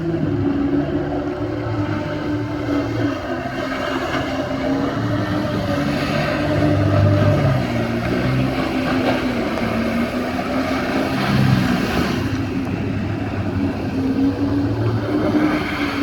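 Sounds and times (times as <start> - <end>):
jet ski engine: 0.0 - 16.0
rushing water and spray: 0.0 - 16.0.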